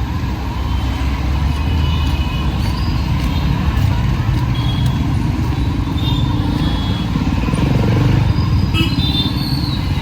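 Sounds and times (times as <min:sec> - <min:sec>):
passing vehicles engine rumble: 0:00.0 - 0:10.0.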